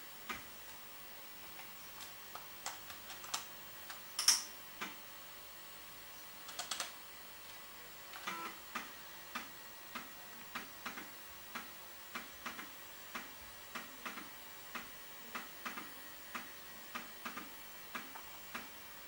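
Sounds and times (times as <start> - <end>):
floppy disk drive clicking: 0.2 - 0.8, 1.5 - 5.0, 6.4 - 19.0.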